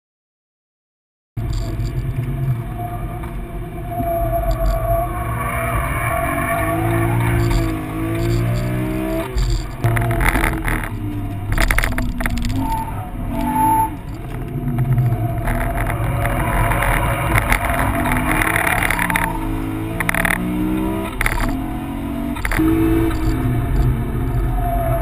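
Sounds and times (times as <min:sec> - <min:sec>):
muffled car engine revving: 0:01.4 - 0:25.0.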